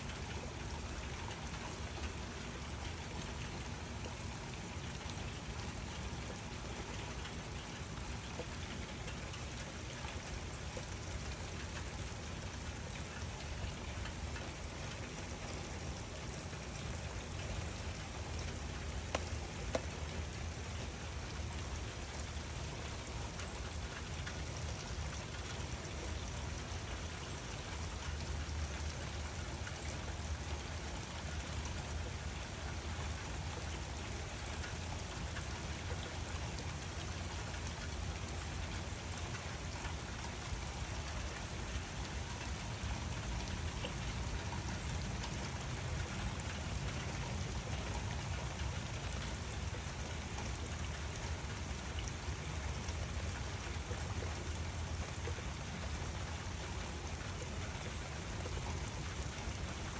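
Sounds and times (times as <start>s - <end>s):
individual raindrops ticking: 0.0s - 59.9s
rain falling: 0.0s - 59.9s.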